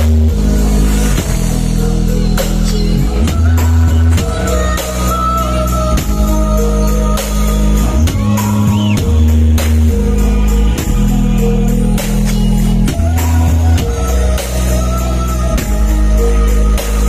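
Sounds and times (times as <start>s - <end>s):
heavy bass notes: 0.0s - 17.0s
loud music from sound system: 0.0s - 17.0s
steady drum beat: 0.0s - 17.0s.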